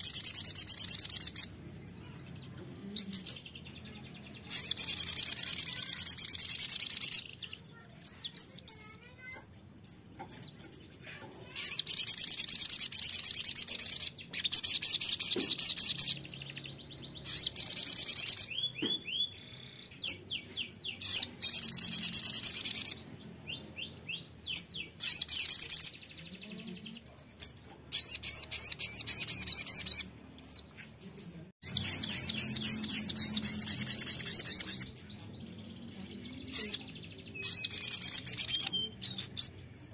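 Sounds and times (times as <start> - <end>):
sunbird singing high trills: 0.0 - 30.8, 31.6 - 39.9.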